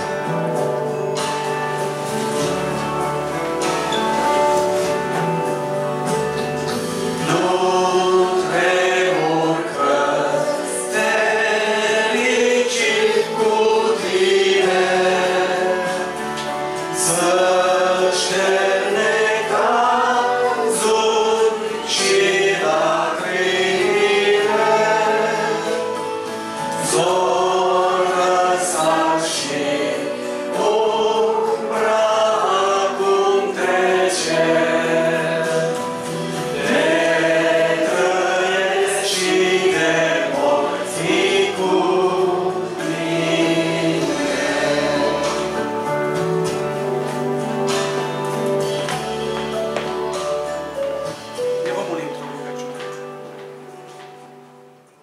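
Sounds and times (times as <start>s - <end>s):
congregation singing a hymn: 0.0s - 54.6s
instrumental accompaniment: 0.0s - 55.0s.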